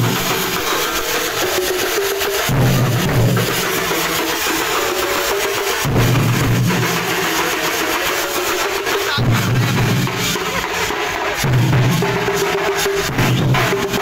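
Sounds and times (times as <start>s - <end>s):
barrel drums beating: 0.0s - 14.0s.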